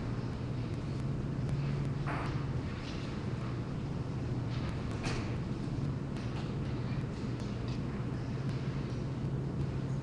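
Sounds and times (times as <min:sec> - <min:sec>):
background rumble and hiss: 0:00.0 - 0:10.0
low hum: 0:00.0 - 0:10.0.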